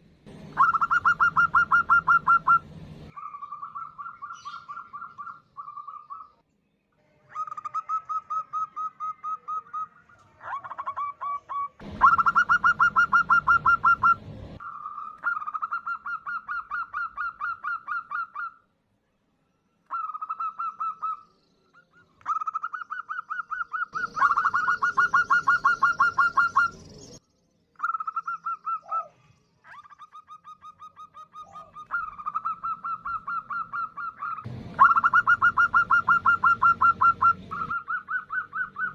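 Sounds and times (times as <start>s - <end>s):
dove cooing: 0.5s - 6.4s, 7.3s - 18.5s, 22.3s - 26.7s, 27.8s - 38.9s.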